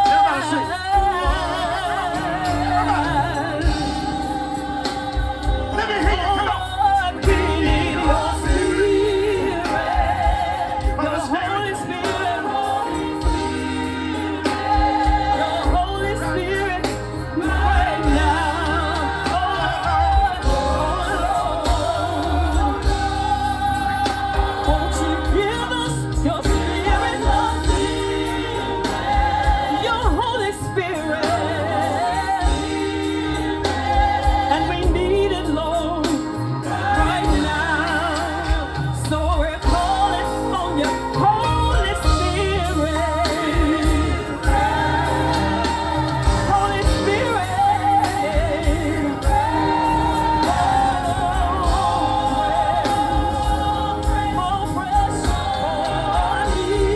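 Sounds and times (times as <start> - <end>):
band accompaniment: 0.0 - 56.9
person singing with vibrato: 0.0 - 56.9
pulsing bass line: 0.0 - 56.9.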